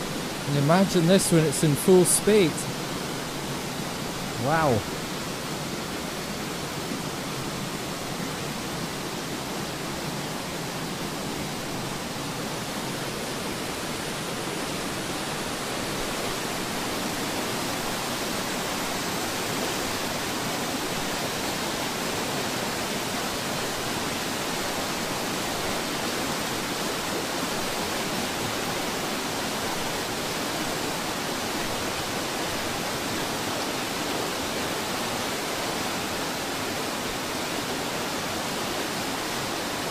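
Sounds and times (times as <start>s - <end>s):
water rushing over rapids: 0.0s - 39.9s.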